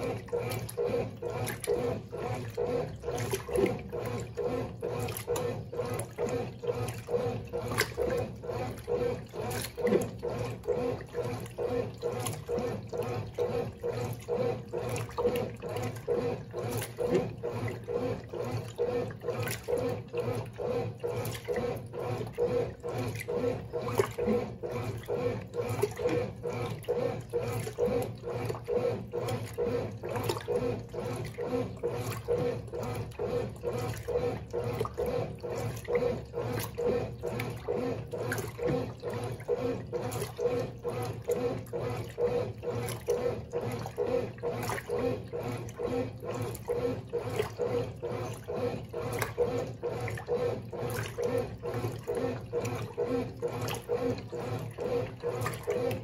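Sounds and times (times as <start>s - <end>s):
motor hum: 0.0s - 56.0s
washing machine agitator swishing: 0.0s - 56.0s.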